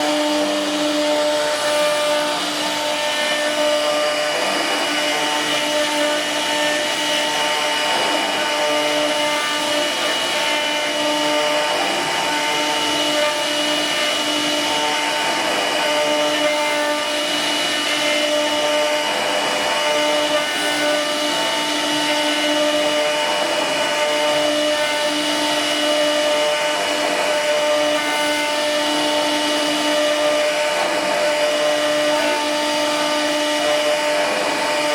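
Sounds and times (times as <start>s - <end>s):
spindle motor whine: 0.0s - 34.9s.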